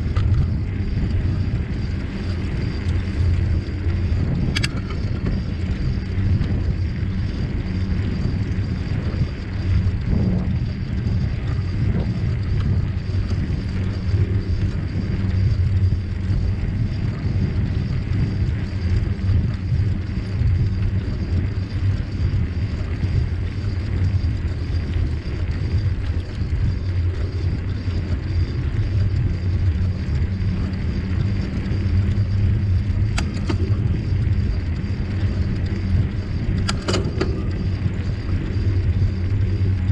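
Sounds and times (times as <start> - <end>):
bicycle tyre and wind rumble: 0.0 - 39.9.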